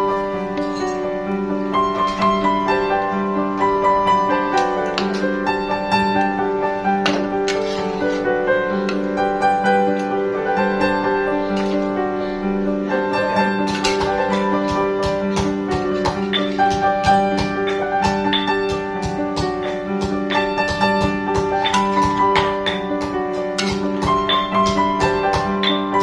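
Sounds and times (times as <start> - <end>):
instrumental piano music with beat: 0.0 - 26.0.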